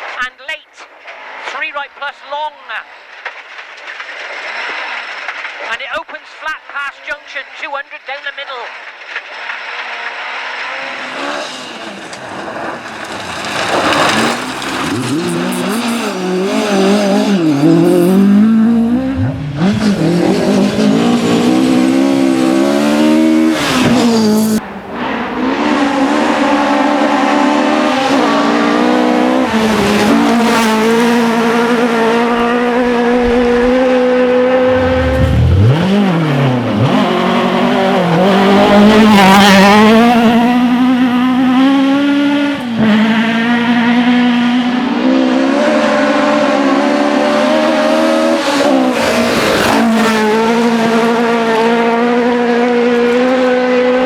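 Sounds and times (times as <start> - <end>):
rally car engine at high revs: 9.2 - 54.0.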